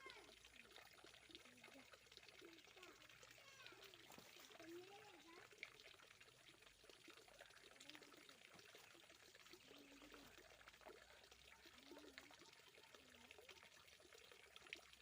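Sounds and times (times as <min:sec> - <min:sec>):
faint trickling water: 0:00.0 - 0:15.0.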